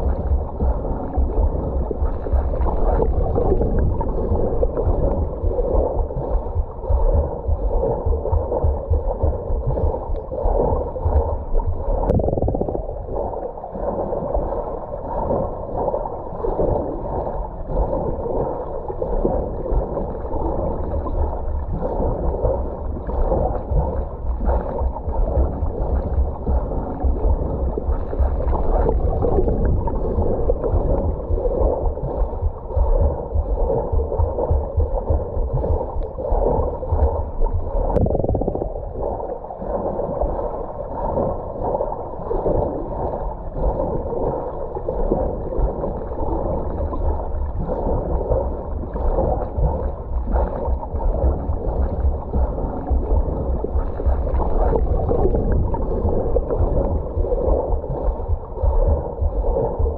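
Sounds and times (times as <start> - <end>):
water churning underwater: 0.0 - 59.9.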